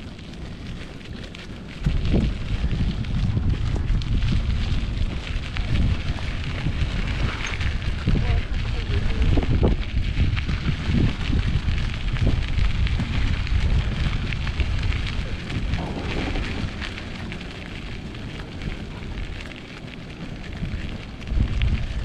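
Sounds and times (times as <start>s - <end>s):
hiss with small crackles: 0.0s - 22.0s
wind rumbling on microphone: 0.0s - 22.0s.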